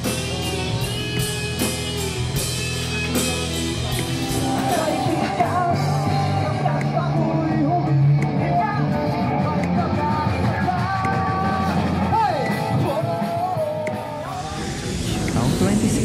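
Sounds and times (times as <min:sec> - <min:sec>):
full band with singing: 0:00.0 - 0:16.0
live rock music with electric guitar: 0:00.0 - 0:16.0.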